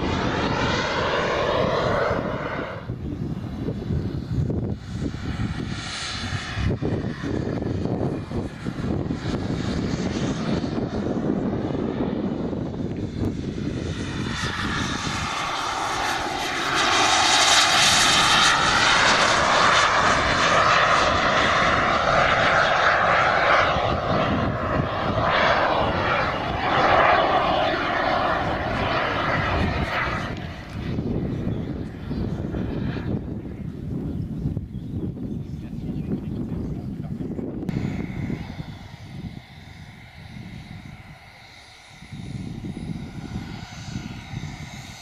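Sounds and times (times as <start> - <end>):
model jet engine flying past: 0.0 - 45.0.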